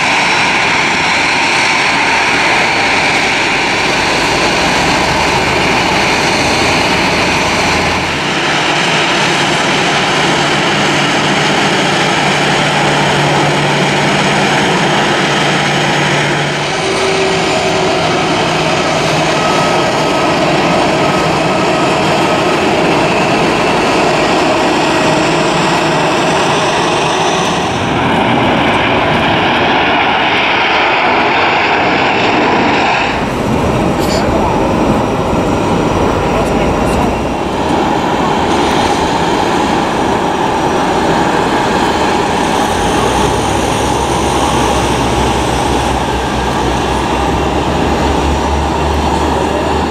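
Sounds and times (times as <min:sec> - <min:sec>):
jet engines at high thrust: 0:00.0 - 0:49.9.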